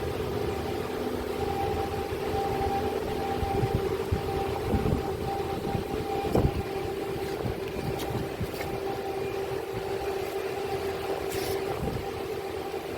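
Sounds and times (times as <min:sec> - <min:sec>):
machine humming: 0:00.0 - 0:12.9.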